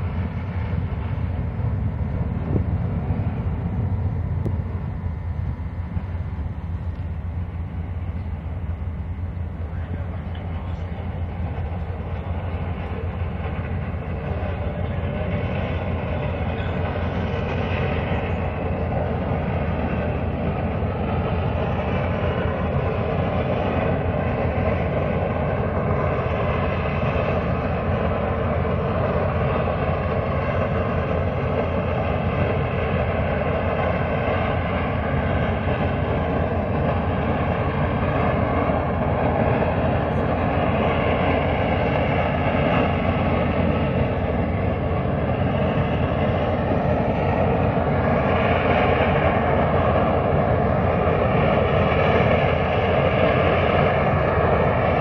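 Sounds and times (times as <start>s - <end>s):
exhaust venting roar: 0.0s - 55.0s.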